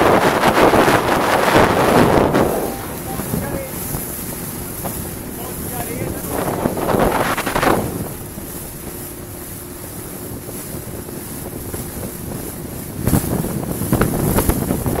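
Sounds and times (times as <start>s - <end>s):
outboard motor humming: 0.0s - 15.0s
water rushing past hull: 0.0s - 15.0s
wind buffeting microphone: 0.0s - 15.0s.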